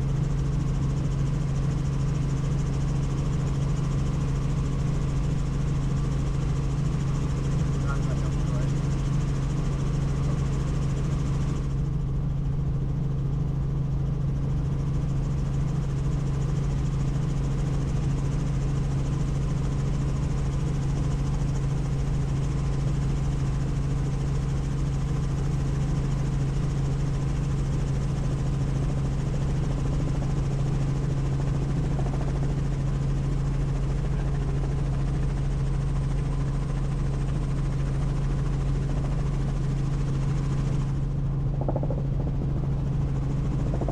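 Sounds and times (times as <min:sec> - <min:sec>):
helicopter in flight: 0:00.0 - 0:43.9.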